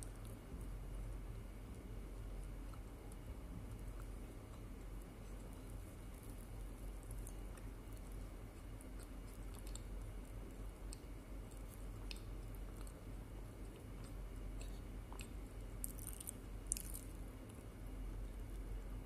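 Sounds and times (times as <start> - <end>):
chewing soft cake: 0.0 - 19.0
faint low hum: 0.0 - 19.0.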